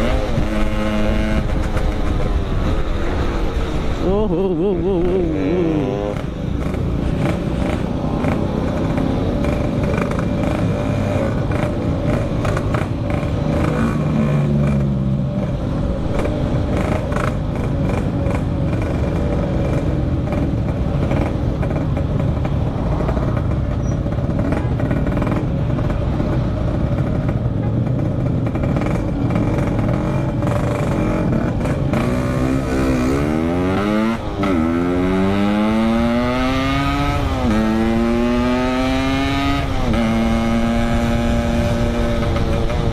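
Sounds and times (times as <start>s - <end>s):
two-stroke motorcycle revving: 0.0s - 42.9s.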